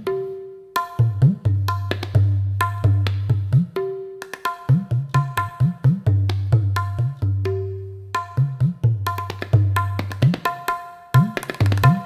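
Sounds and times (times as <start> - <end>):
sharp ringing drum rhythm: 0.8 - 7.3, 8.2 - 12.0.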